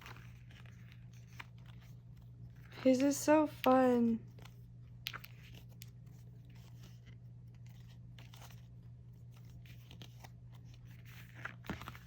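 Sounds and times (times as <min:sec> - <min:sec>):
low steady hum: 0:00.0 - 0:12.0
paper and plastic rustling: 0:00.0 - 0:12.0.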